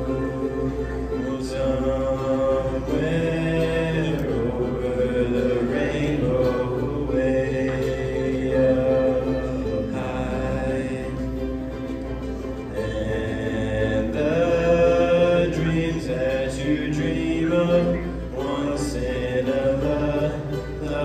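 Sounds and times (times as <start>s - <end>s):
strummed acoustic string instruments: 0.0s - 21.0s
two people singing: 0.0s - 21.0s.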